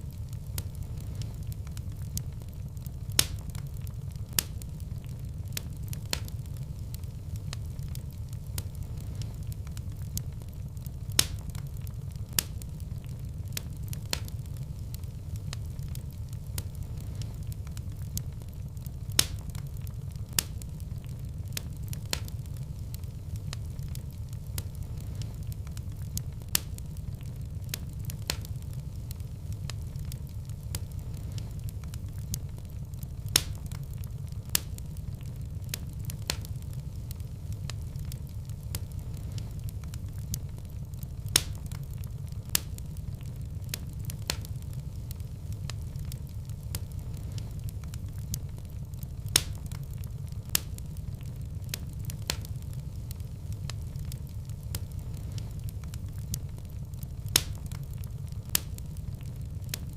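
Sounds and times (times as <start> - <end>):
fire crackling: 0.0 - 59.9
sharp pops of fire: 0.0 - 59.9.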